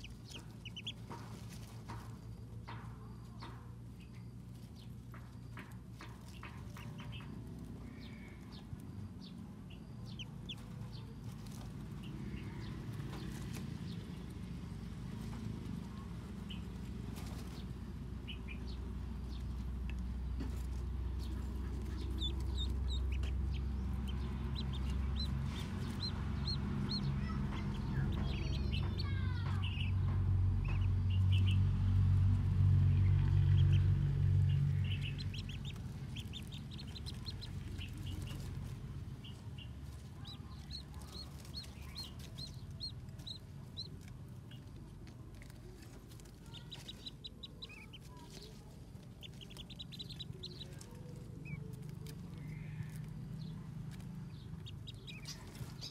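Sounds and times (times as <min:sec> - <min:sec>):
ducklings peeping: 0:00.0 - 0:55.9
low rumble: 0:00.0 - 0:55.9.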